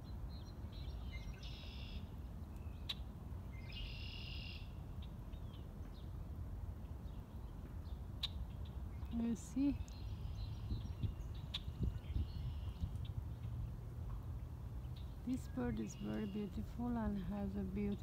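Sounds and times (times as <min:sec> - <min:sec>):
blackbird singing a trill: 0:00.0 - 0:06.1, 0:07.0 - 0:13.7, 0:14.8 - 0:18.0.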